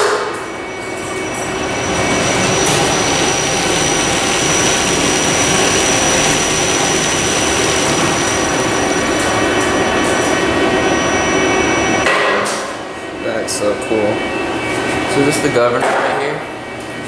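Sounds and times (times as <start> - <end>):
elevator machine whirring: 0.0 - 15.8
thin high-pitched whine: 0.3 - 15.9.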